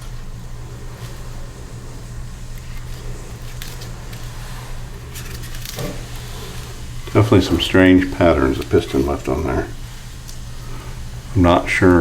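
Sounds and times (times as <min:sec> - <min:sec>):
low workshop hum: 0:00.0 - 0:12.0.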